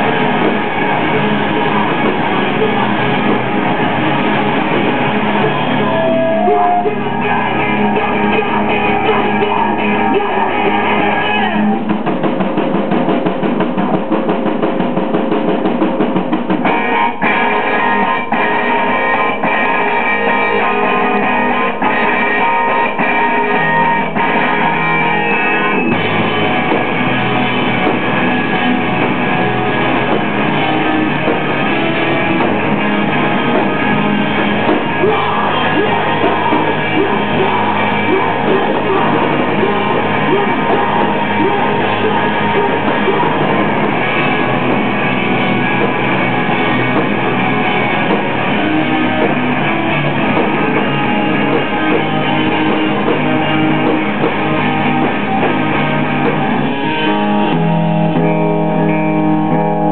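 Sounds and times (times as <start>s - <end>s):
drum kit: 0.0s - 59.9s
electric guitars: 0.0s - 59.9s.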